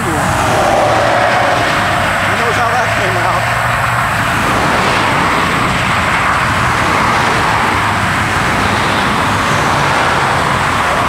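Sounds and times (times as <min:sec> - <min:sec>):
low engine hum: 0:00.0 - 0:11.0
tyre and road noise: 0:00.0 - 0:11.0.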